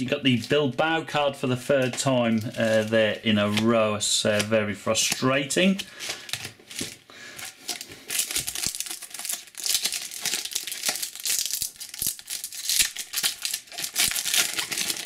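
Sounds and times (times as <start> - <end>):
foil pack crinkling and tearing: 1.8 - 5.2, 5.8 - 15.0.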